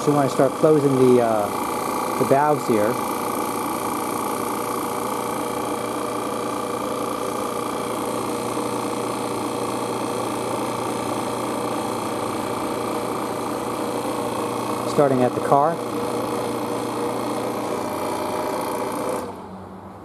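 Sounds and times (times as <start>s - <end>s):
recovery machine humming: 0.0s - 19.5s.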